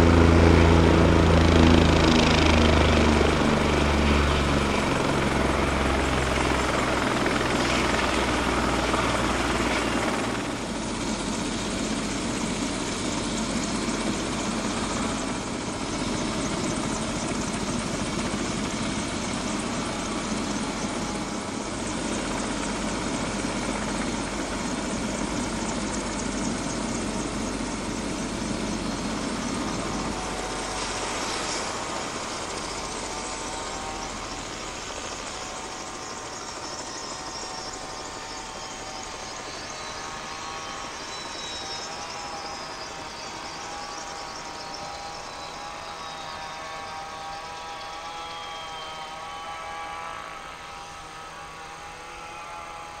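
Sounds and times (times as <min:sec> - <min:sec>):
helicopter engine and rotor running: 0:00.0 - 0:53.0
turbine whine spooling down: 0:00.0 - 0:53.0.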